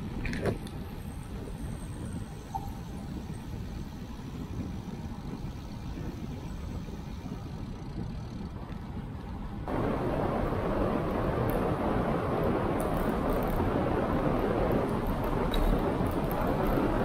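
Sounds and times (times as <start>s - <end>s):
road noise: 0.0s - 17.0s
wind rumbling on microphone: 0.0s - 17.0s.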